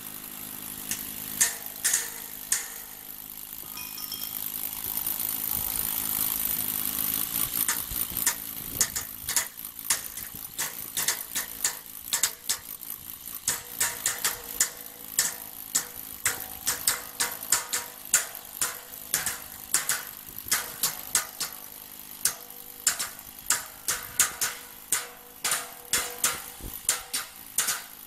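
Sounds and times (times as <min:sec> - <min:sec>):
hammers striking steel: 0:00.8 - 0:04.8, 0:07.6 - 0:28.0.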